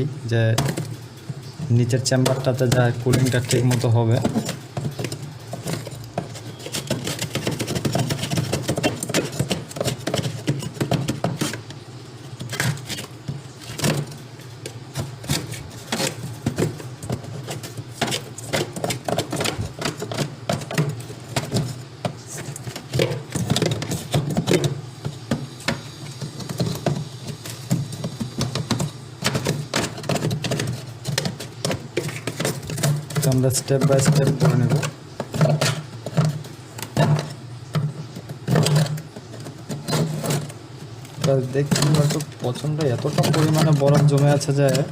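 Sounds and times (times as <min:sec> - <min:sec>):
rapid irregular clicks and knocks: 0:00.0 - 0:44.9.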